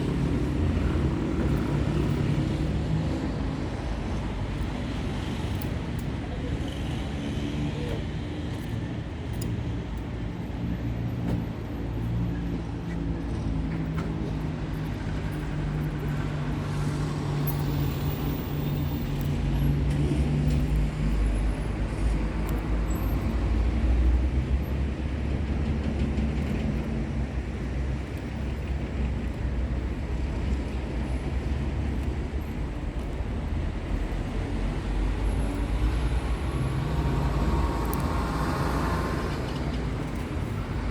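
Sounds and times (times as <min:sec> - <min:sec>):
vehicle engine hum: 0:00.0 - 0:40.9.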